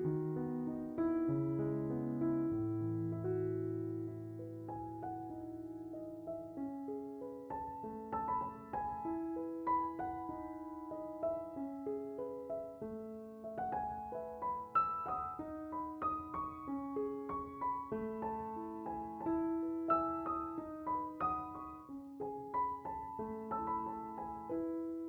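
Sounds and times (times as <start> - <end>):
piano melody: 0.0 - 25.0.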